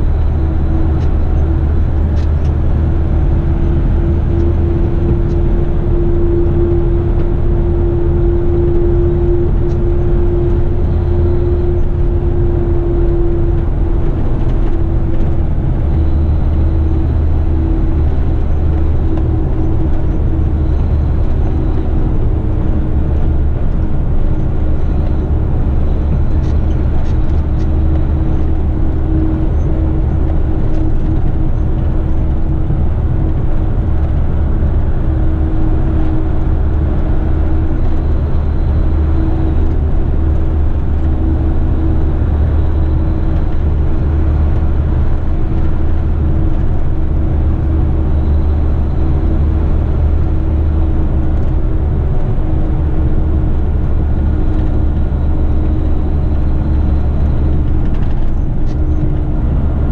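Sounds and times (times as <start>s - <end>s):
constant hum: 0.0s - 59.9s
truck engine drone in cab: 0.0s - 59.9s.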